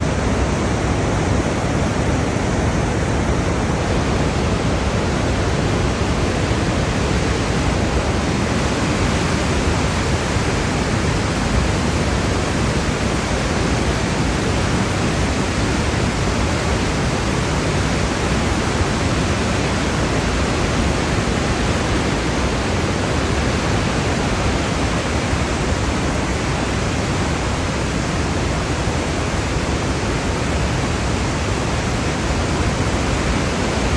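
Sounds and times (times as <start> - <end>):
waterfall crashing: 0.0 - 33.9.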